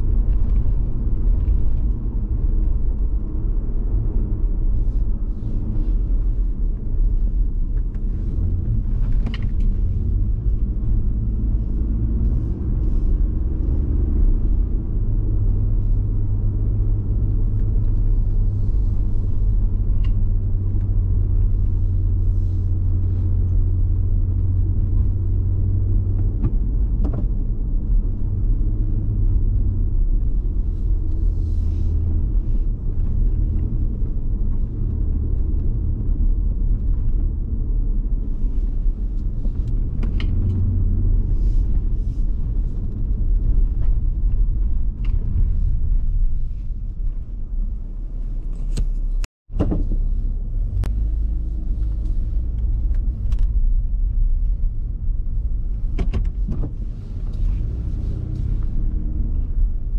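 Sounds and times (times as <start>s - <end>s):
engine and road rumble: 0.0s - 59.9s.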